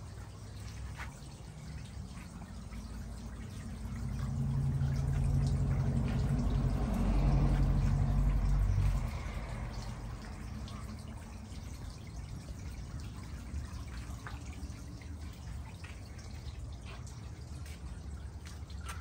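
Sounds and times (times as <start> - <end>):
low steady hum: 0.0 - 19.0
water trickling and splashing: 0.0 - 19.0.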